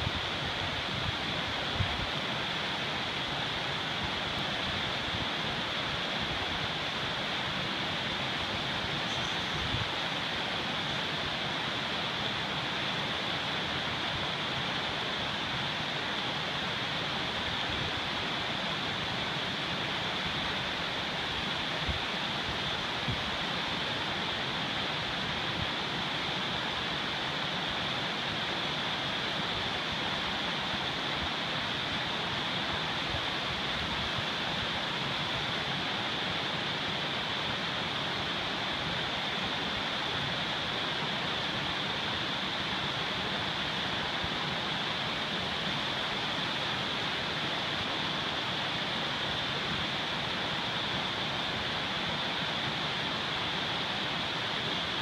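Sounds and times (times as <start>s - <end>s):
river water rushing over rapids: 0.0s - 55.0s.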